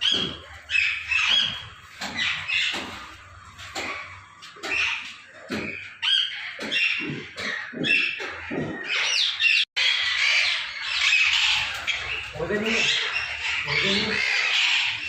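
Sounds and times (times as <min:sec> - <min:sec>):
parrots squawking and chattering: 0:00.0 - 0:15.0.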